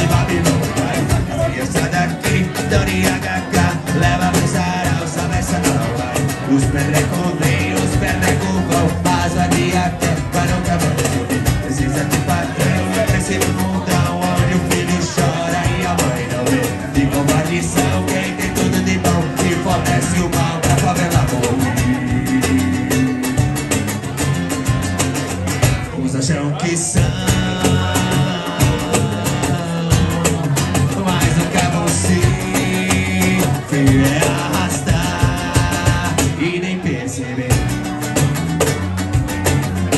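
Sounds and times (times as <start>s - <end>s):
man singing: 0.0s - 24.6s, 25.8s - 39.0s
cajon steady beat: 0.0s - 39.9s
electric bass line: 0.0s - 39.9s
nylon-string acoustic guitar strummed: 0.0s - 39.9s.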